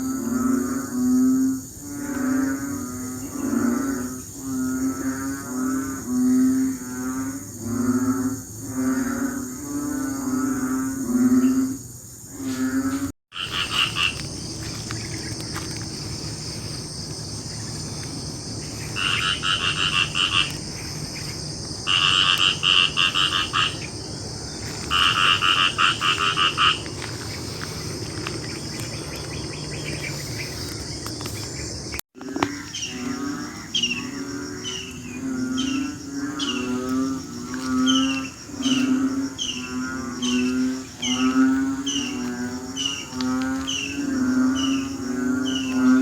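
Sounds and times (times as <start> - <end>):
frogs calling in pulsed trills: 0.0 - 46.0
insect chorus: 0.0 - 46.0.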